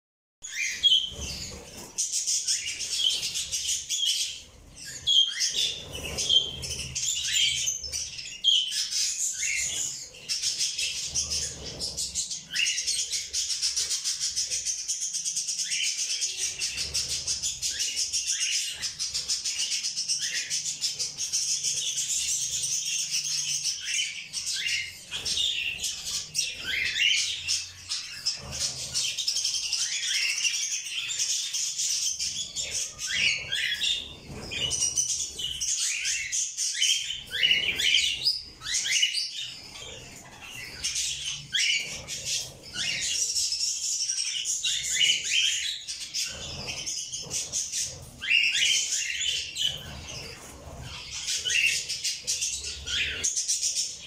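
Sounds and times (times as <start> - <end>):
cockatiels chirping and whistling: 0.4 - 54.0.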